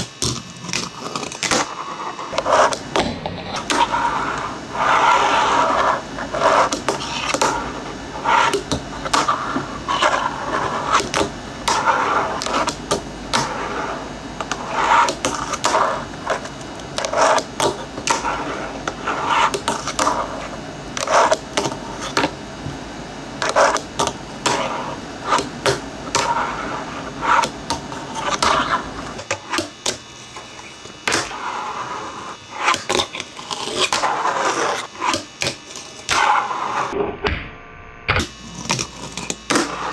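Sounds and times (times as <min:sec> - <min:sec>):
fingerboard grinding on rail: 0:00.0 - 0:22.3, 0:23.4 - 0:36.9, 0:38.3 - 0:39.9
fingerboard wheels rolling: 0:00.0 - 0:22.3, 0:23.4 - 0:35.2, 0:36.1 - 0:37.0, 0:38.6 - 0:39.9.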